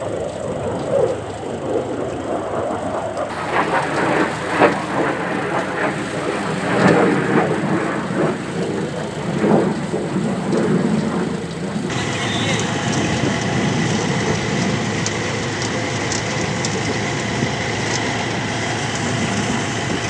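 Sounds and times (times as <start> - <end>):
planter rattling and clattering: 0.0 - 20.0
tractor mechanical rumble: 0.0 - 20.0.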